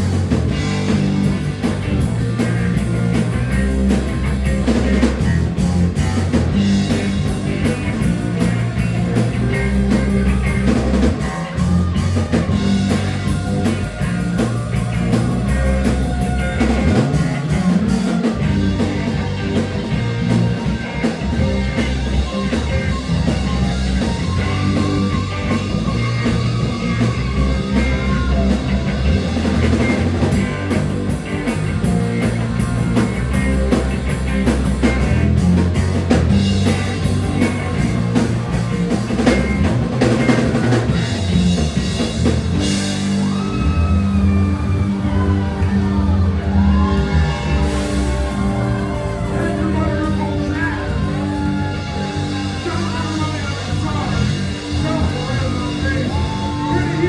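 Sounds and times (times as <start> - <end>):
instrumental rock music: 0.0 - 57.0.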